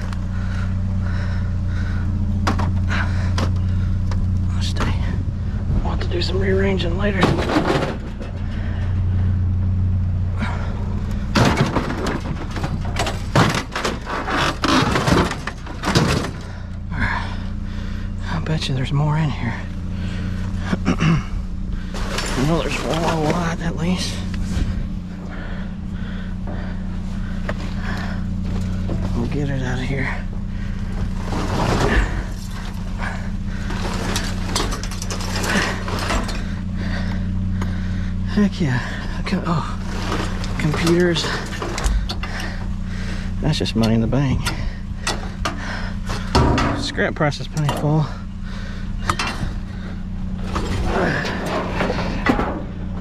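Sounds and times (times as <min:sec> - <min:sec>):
junk clattering in a dumpster: 0:00.0 - 0:18.3, 0:19.5 - 0:53.0
steady low hum: 0:00.0 - 0:53.0.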